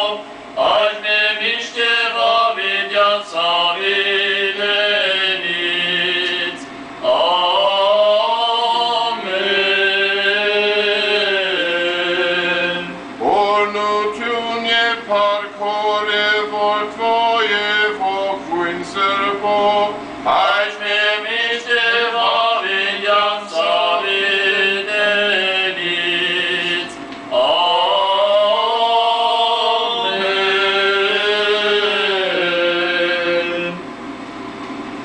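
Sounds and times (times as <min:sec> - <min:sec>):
male voices chanting a hymn: 0:00.0 - 0:33.9.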